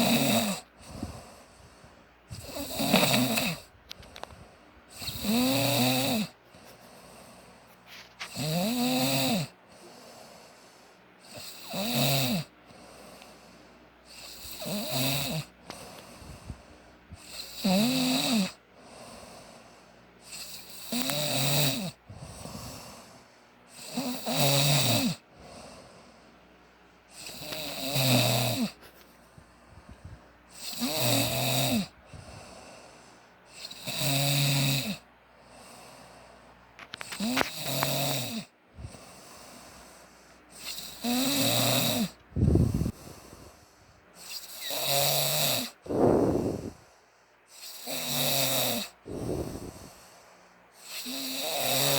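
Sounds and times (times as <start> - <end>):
snoring: 0.0 - 1.6, 2.3 - 6.4, 8.2 - 10.6, 11.2 - 26.1, 27.1 - 28.8, 29.8 - 36.2, 36.8 - 50.2, 50.8 - 51.9
quiet breathing: 0.0 - 8.8, 9.4 - 11.8, 12.4 - 24.2, 25.0 - 51.9.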